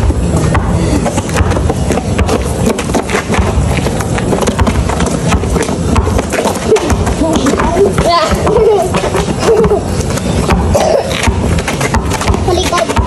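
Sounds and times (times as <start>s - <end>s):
basketball bouncing: 0.0s - 13.0s
steady low rumble: 0.0s - 13.0s.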